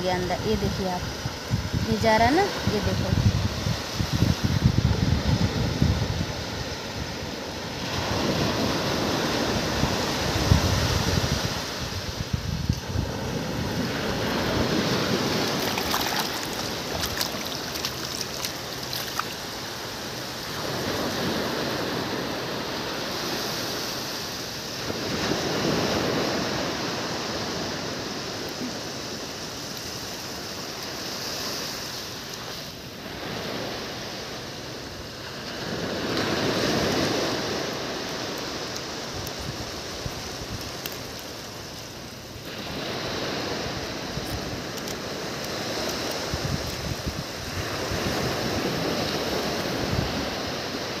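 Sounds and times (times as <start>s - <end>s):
sea surf on sandy beach: 0.0s - 51.0s.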